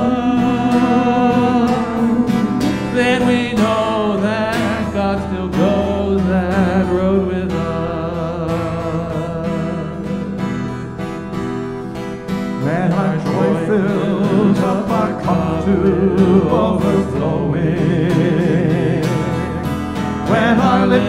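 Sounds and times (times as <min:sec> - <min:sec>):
acoustic guitar accompaniment: 0:00.0 - 0:21.0.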